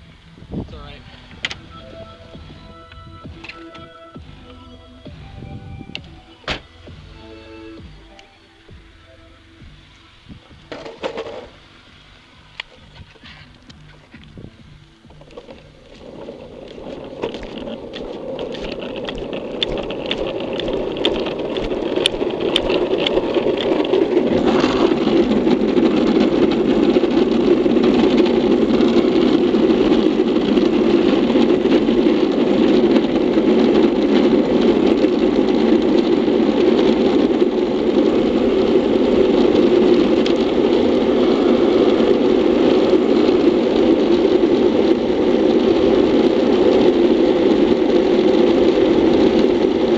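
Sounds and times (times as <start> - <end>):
wheels rolling on asphalt: 0.0 - 49.9
wind rushing on camera: 0.0 - 49.9.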